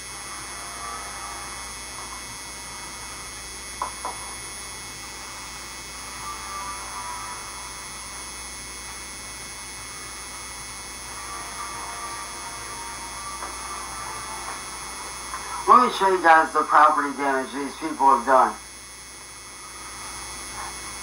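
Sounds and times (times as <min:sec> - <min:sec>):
thin high steady tones: 0:00.0 - 0:03.6, 0:04.7 - 0:21.0
electrical mains hum: 0:00.0 - 0:21.0.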